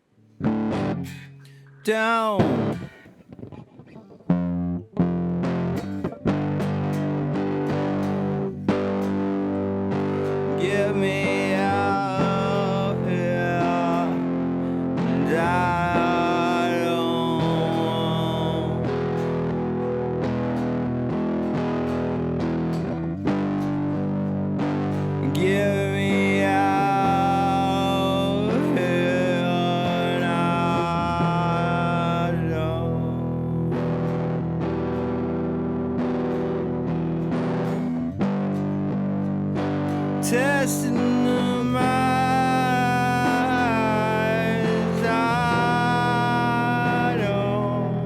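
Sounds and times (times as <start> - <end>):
distorted electric guitar chords: 0.0 - 48.0.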